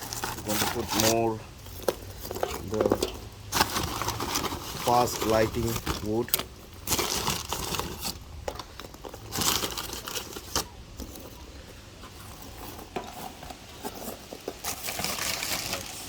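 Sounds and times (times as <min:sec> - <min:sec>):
crinkling and rustling: 0:00.0 - 0:16.0.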